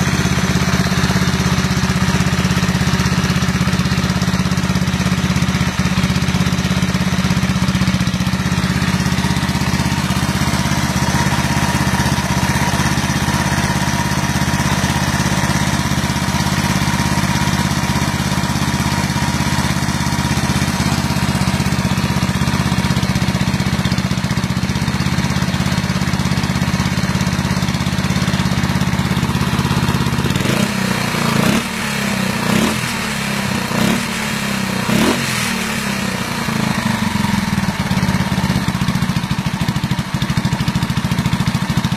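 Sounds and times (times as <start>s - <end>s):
engine idling and revving: 0.0s - 41.9s.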